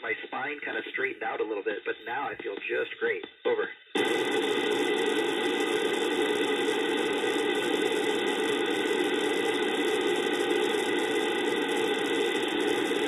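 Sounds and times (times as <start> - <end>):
faint steady tones: 0.0 - 13.0
radio static hiss: 0.0 - 13.0.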